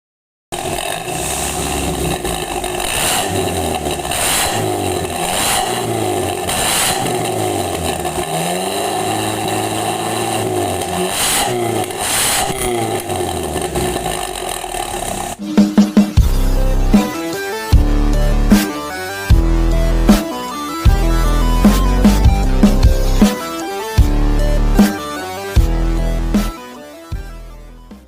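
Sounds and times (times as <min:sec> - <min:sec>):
car engine revving: 0:00.5 - 0:15.5, 0:16.2 - 0:26.6.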